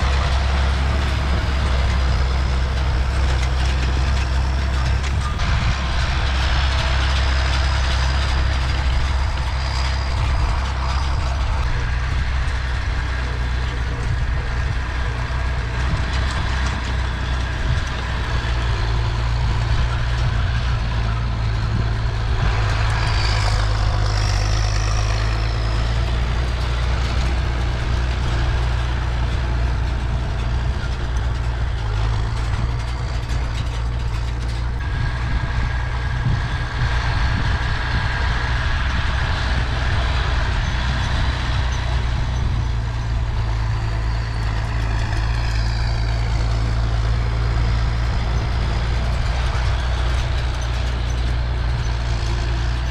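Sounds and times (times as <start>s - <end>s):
tractor engine running steadily: 0.0s - 52.9s.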